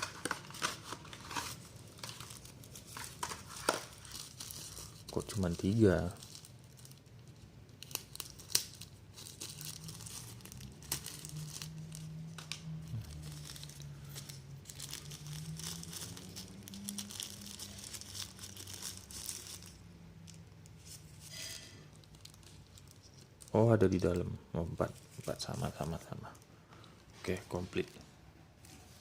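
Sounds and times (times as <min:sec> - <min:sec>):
packaging crinkling and rustling: 0:00.0 - 0:29.0.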